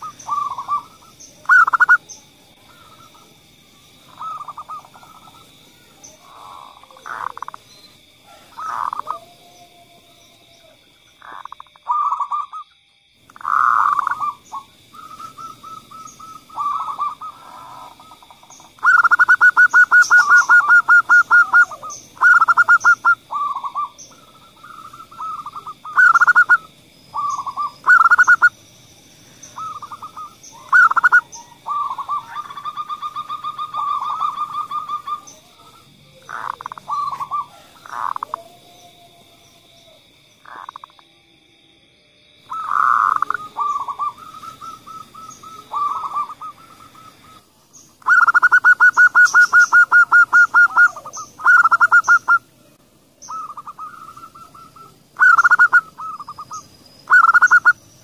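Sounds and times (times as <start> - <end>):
dove cooing: 0.0 - 2.1, 4.1 - 7.6, 8.2 - 12.6, 13.4 - 28.5, 29.5 - 40.9, 42.5 - 47.4, 48.0 - 52.5, 53.3 - 57.8.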